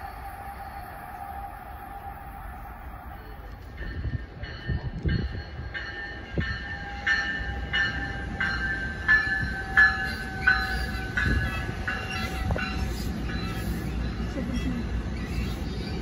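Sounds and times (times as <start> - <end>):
train rumbling on distant track: 0.0 - 16.0.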